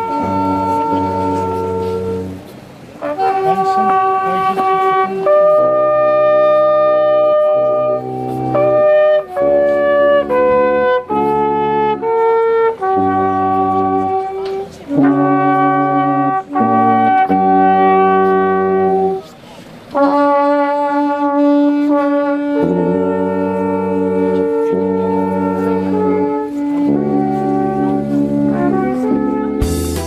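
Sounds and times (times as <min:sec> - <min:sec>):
brass band playing held chords: 0:00.0 - 0:30.0.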